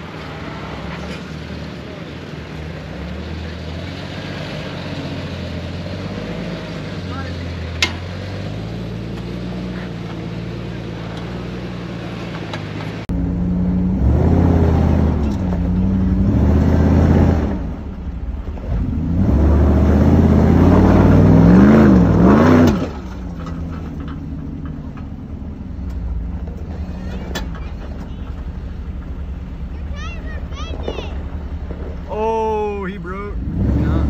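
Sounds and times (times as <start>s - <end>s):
engine revving and idling: 0.0s - 34.0s.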